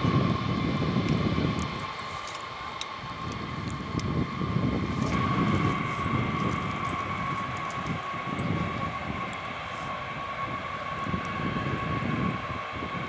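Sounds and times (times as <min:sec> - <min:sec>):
jet engines whining: 0:00.0 - 0:13.0
uneven low rumble: 0:00.0 - 0:13.0.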